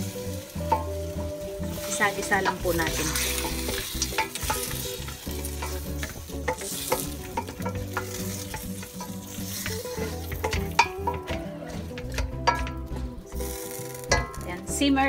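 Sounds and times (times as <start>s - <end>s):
meat sizzling in a pot: 0.0s - 15.0s
spatula scraping metal pot: 1.6s - 14.4s.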